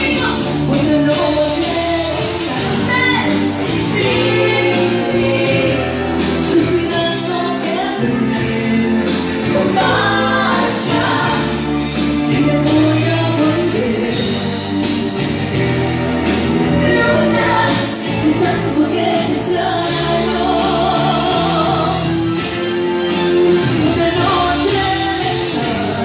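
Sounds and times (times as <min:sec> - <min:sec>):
woman singing into microphone: 0:00.0 - 0:11.6, 0:12.3 - 0:14.6, 0:16.7 - 0:22.2, 0:23.6 - 0:26.0
amplified backing music with drum beat: 0:00.0 - 0:26.0.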